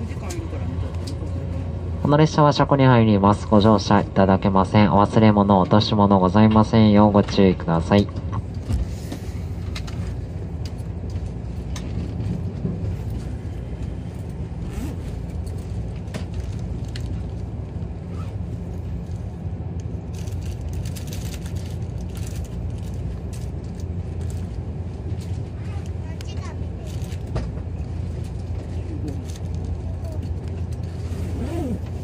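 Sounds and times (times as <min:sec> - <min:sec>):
low train equipment hum: 0:00.0 - 0:32.0.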